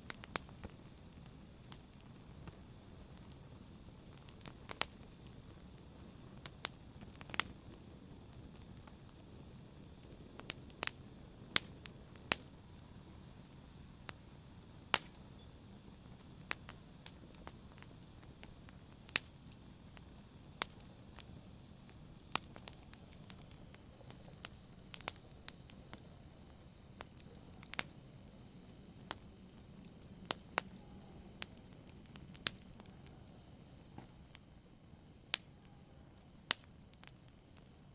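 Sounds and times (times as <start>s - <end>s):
fire crackling and popping: 0.0s - 37.9s
low rush of flames: 0.0s - 37.9s.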